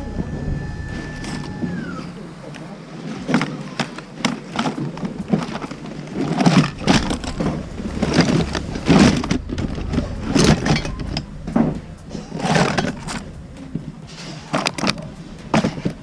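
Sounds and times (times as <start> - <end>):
low rumble: 0.0 - 2.6, 5.0 - 16.0
items clattering in plastic tub: 2.5 - 16.0.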